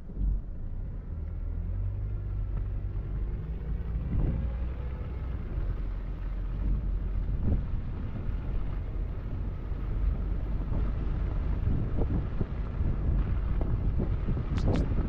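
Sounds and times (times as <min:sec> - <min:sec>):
car engine and road noise: 0:00.0 - 0:15.0
wind buffeting microphone: 0:02.4 - 0:15.0.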